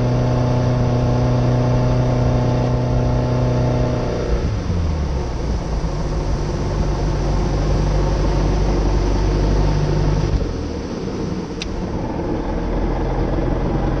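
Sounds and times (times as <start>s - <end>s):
boat engine running: 0.0s - 14.0s
wind and water rushing: 2.3s - 13.9s.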